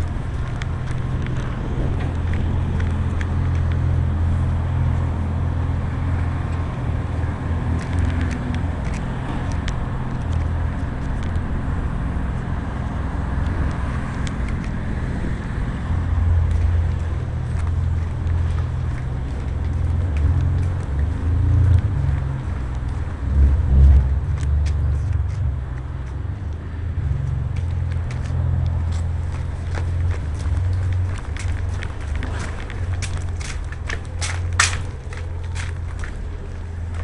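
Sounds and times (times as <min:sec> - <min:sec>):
engine running with deep hum: 0:00.0 - 0:37.0.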